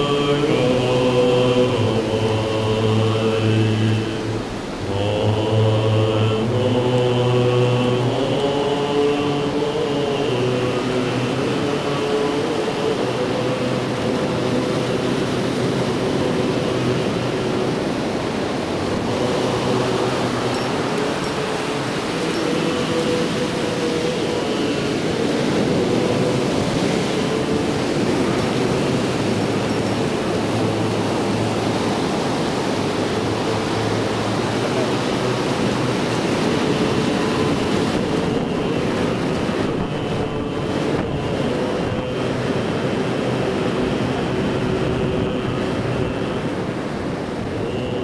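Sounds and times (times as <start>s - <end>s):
ocean surf breaking: 0.0s - 48.0s
wind on microphone: 0.0s - 48.0s.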